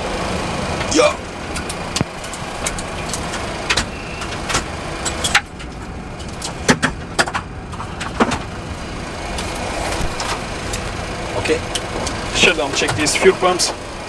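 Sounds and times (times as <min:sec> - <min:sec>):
cockpit background hum: 0:00.0 - 0:14.0.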